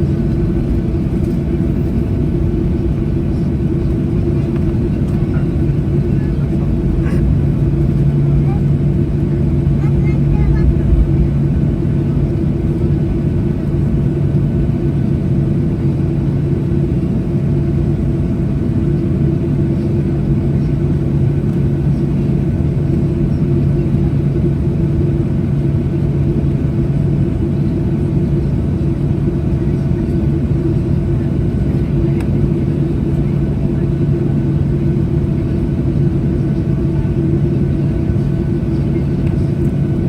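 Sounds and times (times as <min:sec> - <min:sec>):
jet engines humming at taxi power: 0:00.0 - 0:40.0.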